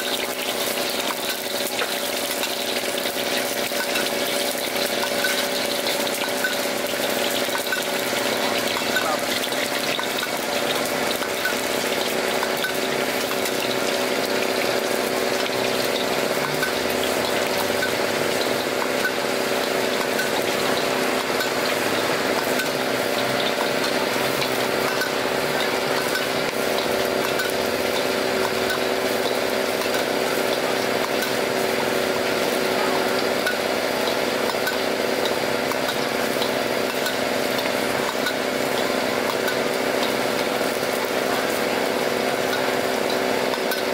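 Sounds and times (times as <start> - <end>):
food deep-frying in oil: 0.0 - 43.9
mechanical hum: 0.0 - 43.9.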